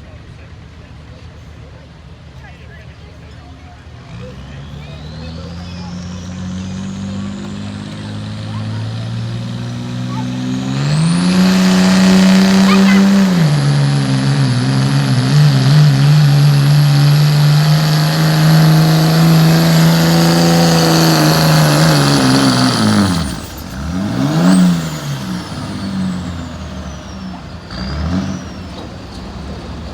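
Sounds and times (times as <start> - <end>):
truck engine running under load: 4.0 - 29.9.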